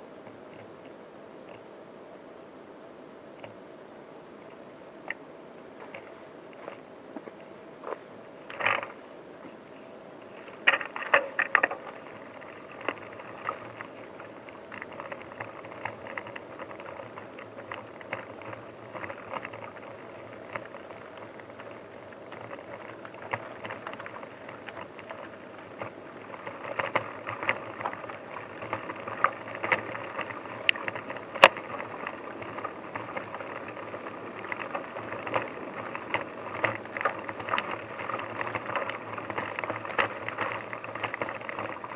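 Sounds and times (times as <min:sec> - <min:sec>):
bicycle rattling over rough ground: 0:05.8 - 0:41.9.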